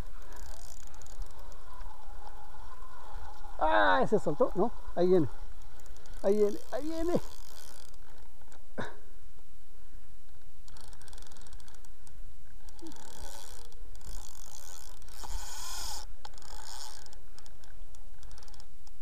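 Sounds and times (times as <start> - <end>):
fishing reel gears clicking and whirring: 0.0 - 8.4, 10.6 - 19.0.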